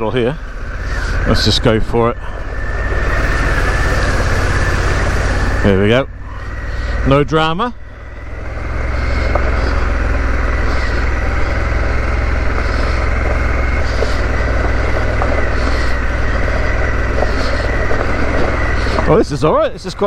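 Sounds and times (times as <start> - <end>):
motorcycle engine pulling: 0.0 - 20.0.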